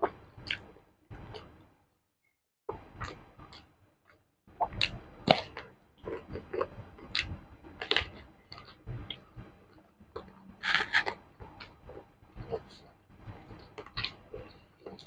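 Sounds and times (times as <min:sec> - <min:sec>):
person chewing crunchy food: 0:00.0 - 0:01.5, 0:02.7 - 0:03.7, 0:04.5 - 0:15.0
wet chewing sounds: 0:00.0 - 0:01.6, 0:02.7 - 0:15.0.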